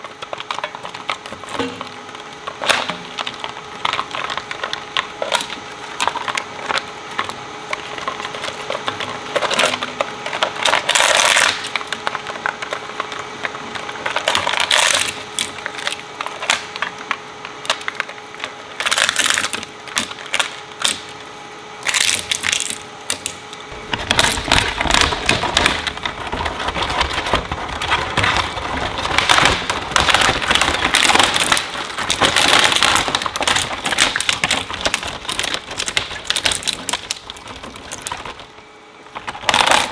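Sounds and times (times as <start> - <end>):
faint motor hum: 0.0 - 39.9
shredder crunching plastic: 0.0 - 39.9.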